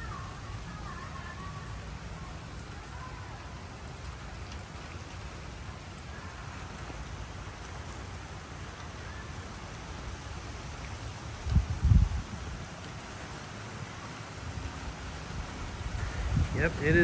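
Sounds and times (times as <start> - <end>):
rain hissing on surfaces: 0.0 - 17.0.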